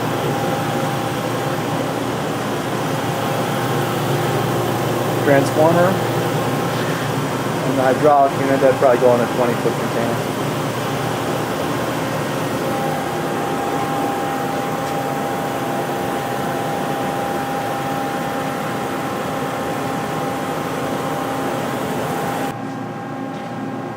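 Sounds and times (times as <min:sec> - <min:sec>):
lathe mechanical hum: 0:00.0 - 0:23.9
steady machine whine: 0:00.0 - 0:23.9.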